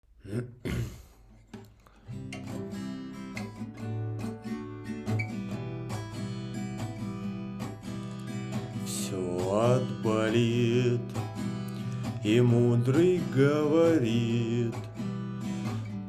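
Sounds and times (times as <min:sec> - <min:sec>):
acoustic guitar playing: 0:01.2 - 0:16.0.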